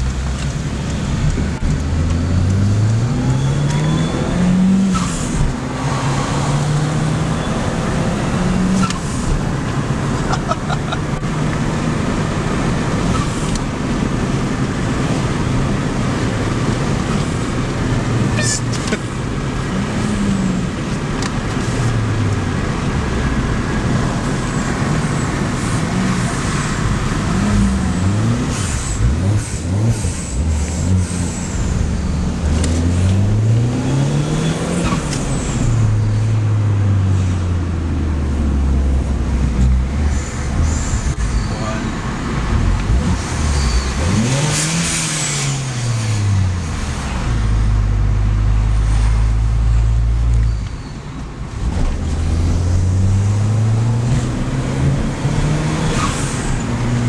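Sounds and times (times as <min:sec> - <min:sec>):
car engine revving: 0:00.0 - 0:50.5, 0:51.2 - 0:57.0.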